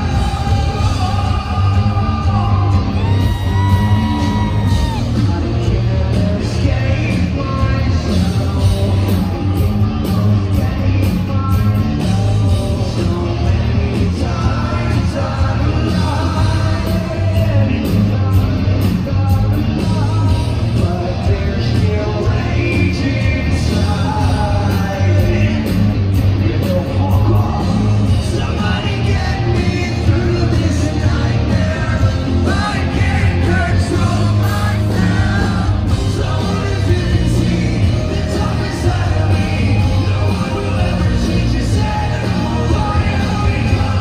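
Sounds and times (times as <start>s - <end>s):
electric guitar: 0.0s - 44.0s
man singing: 0.0s - 44.0s
steady drum beat: 0.0s - 44.0s.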